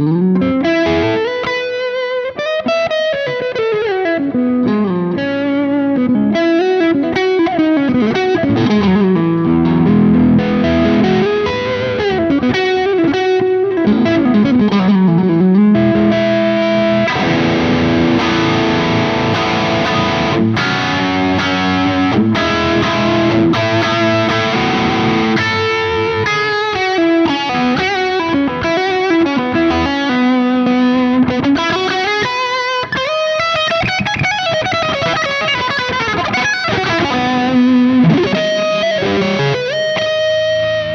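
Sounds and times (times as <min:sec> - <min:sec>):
electric guitar lead melody: 0:00.0 - 0:40.9.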